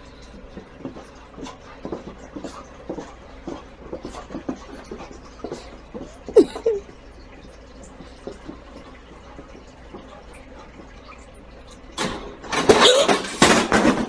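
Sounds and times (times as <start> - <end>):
rhythmic panting: 0.0 - 11.8.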